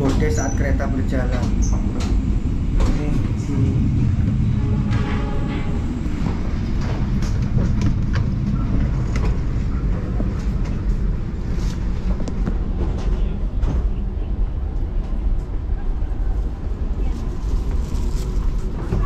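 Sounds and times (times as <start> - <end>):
train carriage rumble: 0.0 - 19.0.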